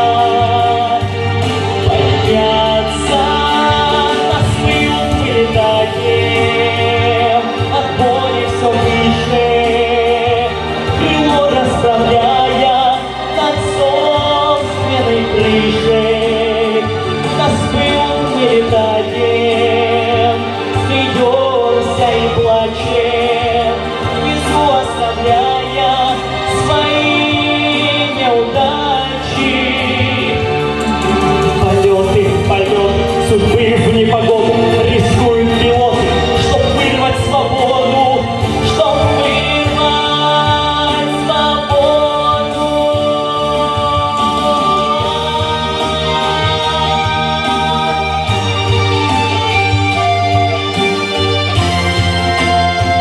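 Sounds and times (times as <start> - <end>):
pop song instrumental: 0.0 - 53.0.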